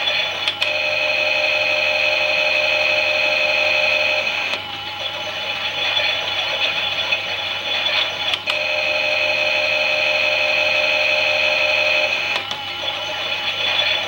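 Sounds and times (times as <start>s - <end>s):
toy washing machine motor whining: 0.0s - 14.0s.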